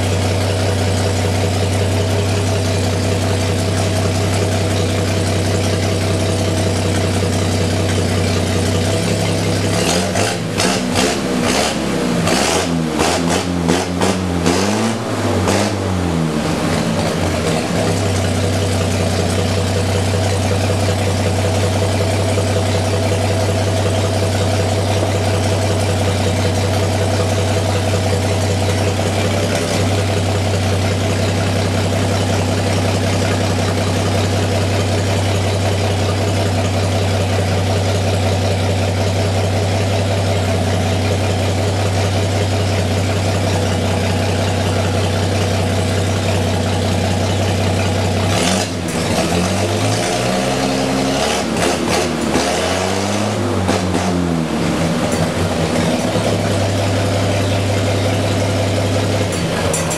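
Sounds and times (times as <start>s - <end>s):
truck engine revving and idling: 0.0s - 59.9s.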